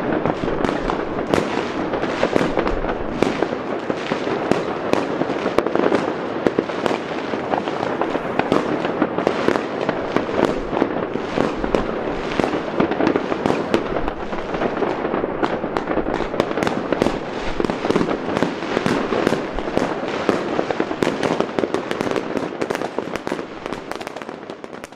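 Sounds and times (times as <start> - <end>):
fireworks and firecrackers banging: 0.0 - 24.9.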